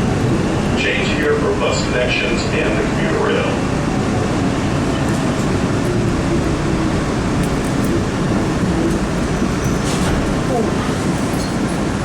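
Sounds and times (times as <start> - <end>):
subway car rumbling on rails: 0.0 - 12.0.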